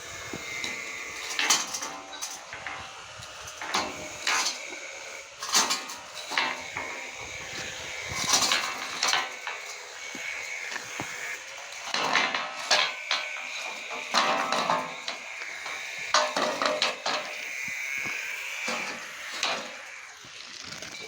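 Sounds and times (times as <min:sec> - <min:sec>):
metal pieces clanking: 0:00.4 - 0:20.1.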